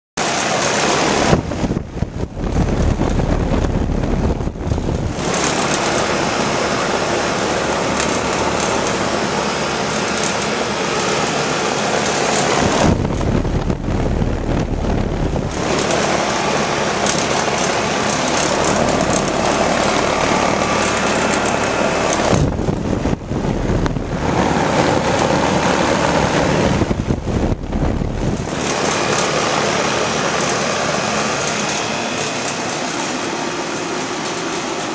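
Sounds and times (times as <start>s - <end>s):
air conditioner running: 0.2s - 34.9s.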